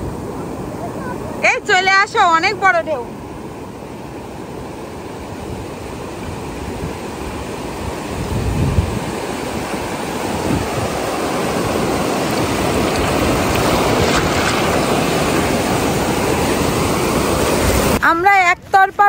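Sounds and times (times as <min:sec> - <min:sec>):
ocean surf breaking: 0:00.0 - 0:18.8
wind buffeting microphone: 0:03.3 - 0:18.6.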